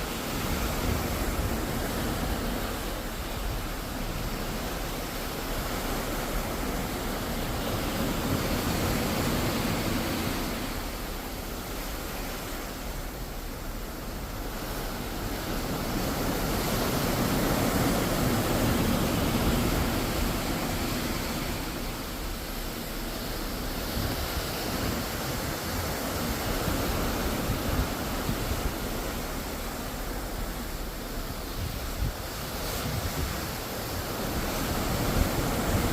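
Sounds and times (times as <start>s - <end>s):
ocean waves washing in: 0.0s - 35.9s
wind on microphone: 0.0s - 35.9s.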